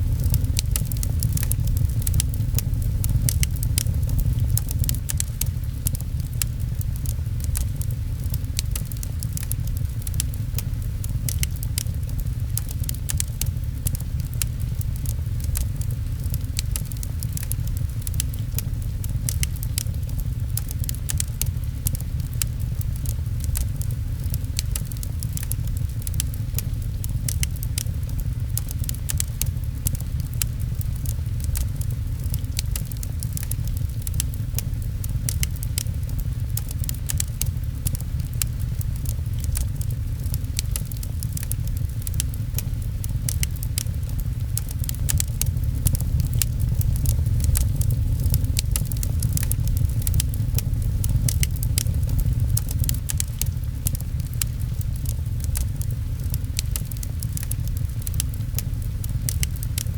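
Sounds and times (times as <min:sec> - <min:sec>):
fireplace crackling and popping: 0:00.0 - 0:59.9
rain pattering on a window: 0:00.0 - 0:59.9
steady low rumble: 0:00.0 - 0:59.9.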